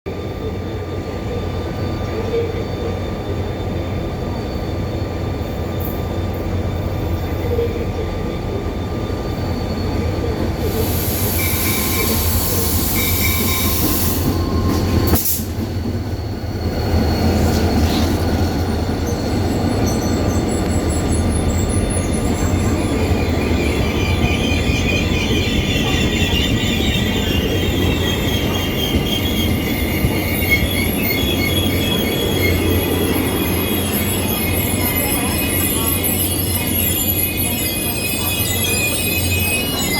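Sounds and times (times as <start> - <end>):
train rumbling on rails: 0.1 - 39.9.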